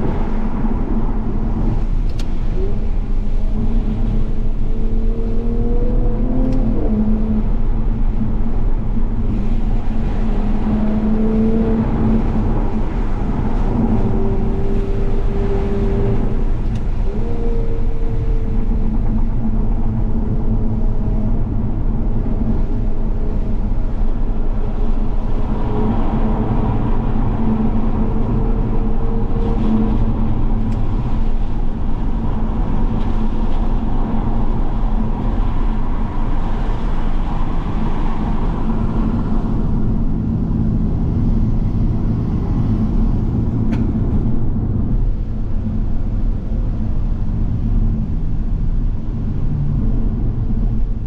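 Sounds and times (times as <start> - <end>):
car engine drone: 0.0 - 51.0.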